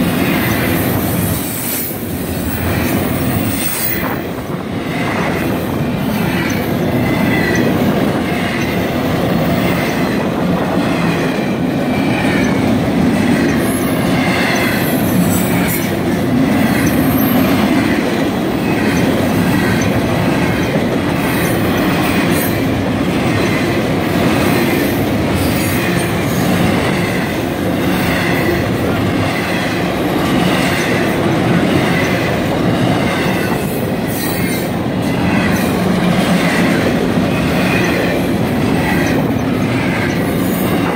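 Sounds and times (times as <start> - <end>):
freight train rumbling: 0.0 - 40.9
train wheels clattering: 0.0 - 40.9.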